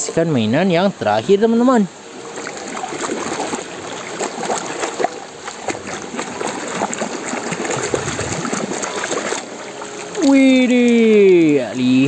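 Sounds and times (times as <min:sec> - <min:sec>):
steady rush of water: 0:00.0 - 0:12.0
water splashing and sloshing: 0:01.5 - 0:12.0.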